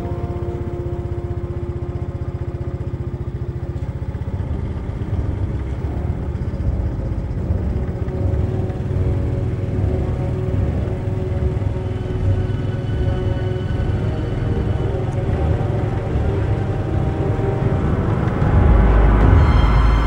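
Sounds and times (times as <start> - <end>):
motorcycle engine low pulsing: 0.0 - 20.0.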